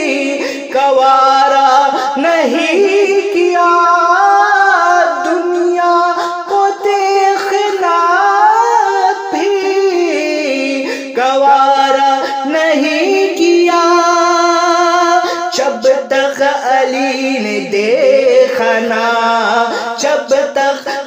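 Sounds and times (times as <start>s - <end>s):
man singing long held notes: 0.0s - 21.0s.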